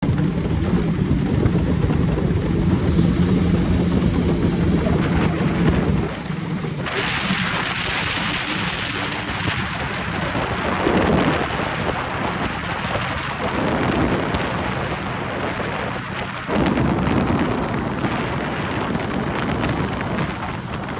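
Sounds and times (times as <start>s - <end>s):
boat engine droning: 0.0s - 20.9s
rushing wind and water: 0.0s - 20.9s.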